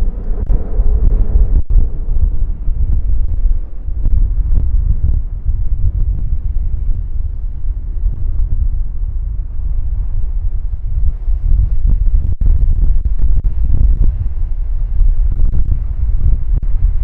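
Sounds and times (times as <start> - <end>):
turboprop aircraft rumble: 0.0 - 17.0
wind on microphone: 0.0 - 17.0.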